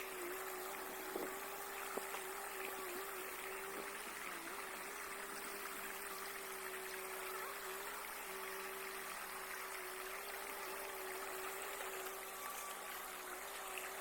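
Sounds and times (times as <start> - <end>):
faint wavering hum: 0.0 - 14.0
outdoor background hiss: 0.0 - 14.0.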